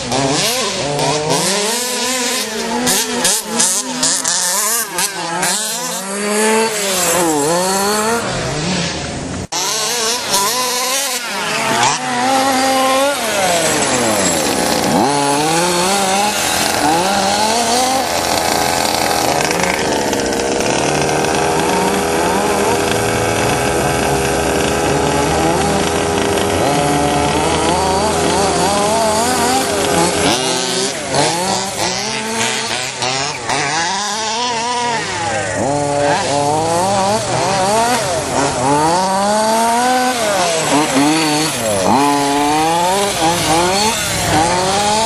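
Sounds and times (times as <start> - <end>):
small engines revving: 0.0 - 45.0.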